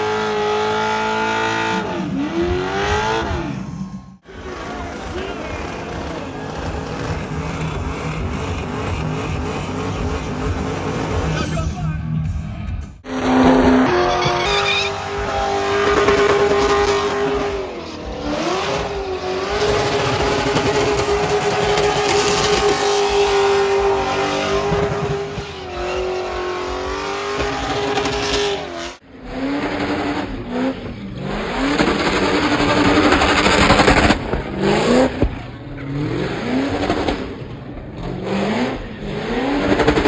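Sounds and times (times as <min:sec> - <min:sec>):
car engine revving hard: 0:00.0 - 0:11.7, 0:13.0 - 0:40.0
tires screeching: 0:00.0 - 0:40.0.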